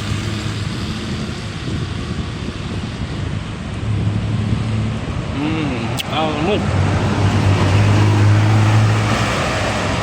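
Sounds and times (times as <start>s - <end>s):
heavy vehicle engine hum: 0.0s - 10.0s
road and wind noise: 0.0s - 10.0s.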